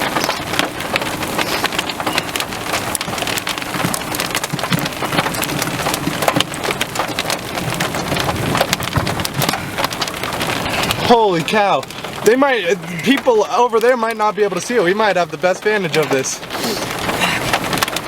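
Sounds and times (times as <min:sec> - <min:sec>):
raindrops hitting close: 0:00.0 - 0:18.0
steady rain: 0:00.0 - 0:18.0.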